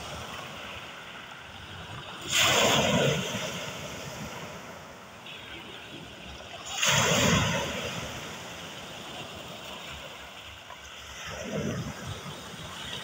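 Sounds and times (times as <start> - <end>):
waves breaking on pebble beach: 0.0 - 10.3, 11.0 - 13.0.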